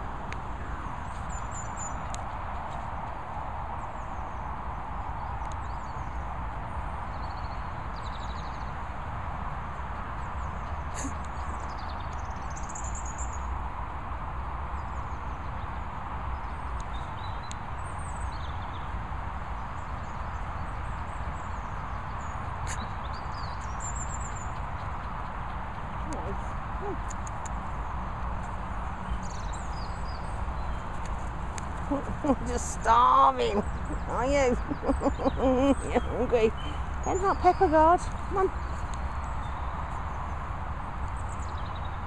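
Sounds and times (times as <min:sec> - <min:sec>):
small birds chirping: 0:00.0 - 0:13.6, 0:14.6 - 0:42.0.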